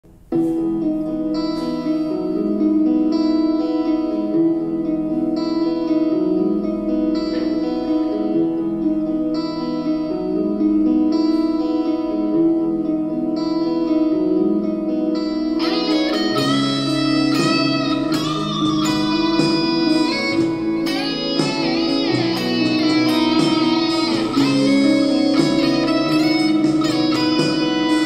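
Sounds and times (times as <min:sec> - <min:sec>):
electric guitar solo: 0:00.1 - 0:28.0
sustained low backing notes: 0:00.1 - 0:28.0.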